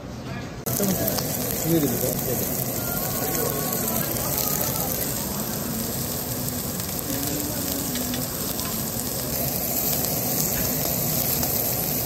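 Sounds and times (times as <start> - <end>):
meat sizzling on a grill: 0.7 - 12.0.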